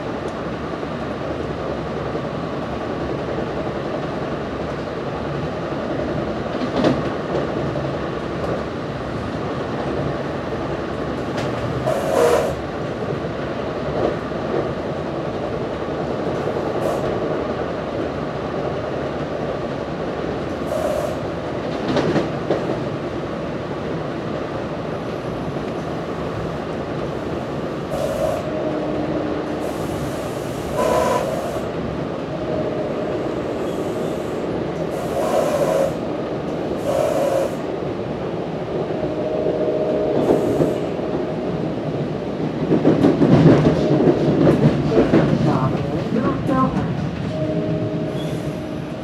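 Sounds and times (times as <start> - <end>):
wheels rumbling on rail: 0.0 - 49.0.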